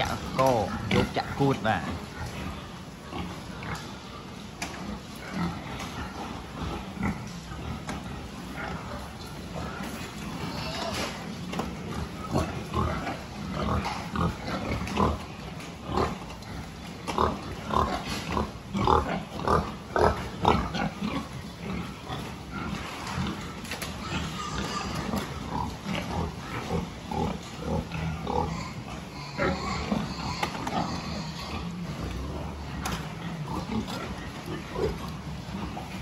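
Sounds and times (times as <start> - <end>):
pigs grunting: 0.0 - 36.0.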